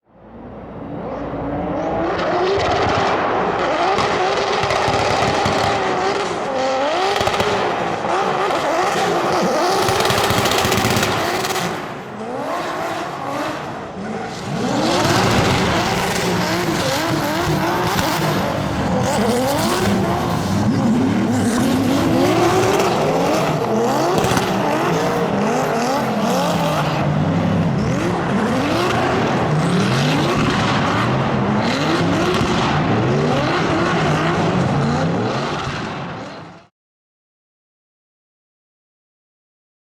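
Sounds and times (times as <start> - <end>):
car engine revving hard: 1.1 - 36.4.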